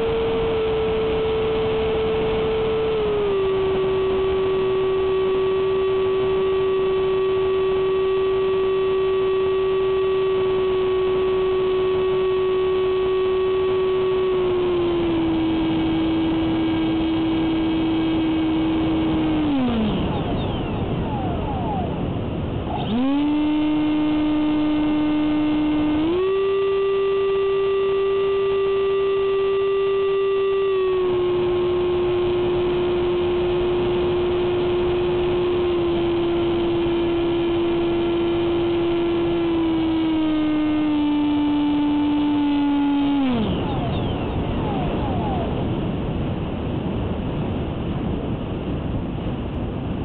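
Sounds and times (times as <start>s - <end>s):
electric ducted fan whine: 0.0s - 50.0s.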